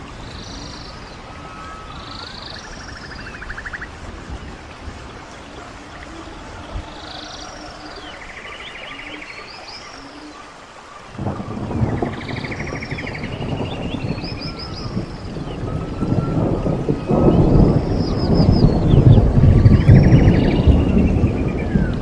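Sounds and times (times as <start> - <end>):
thunder rumble: 0.0 - 9.2, 11.1 - 22.0
birds calling: 0.0 - 22.0
rain: 0.0 - 22.0
running water hiss: 0.0 - 22.0.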